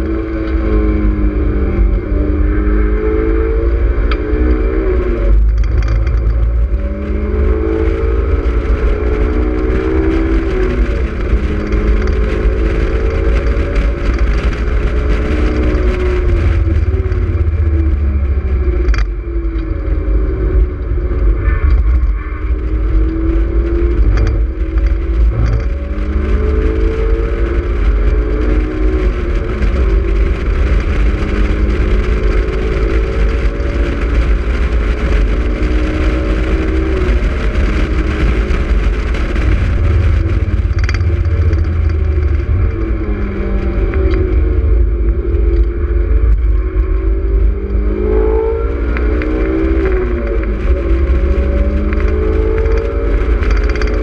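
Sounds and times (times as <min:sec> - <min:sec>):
car engine accelerating: 0:00.0 - 0:54.0
low wind rumble: 0:00.0 - 0:54.0.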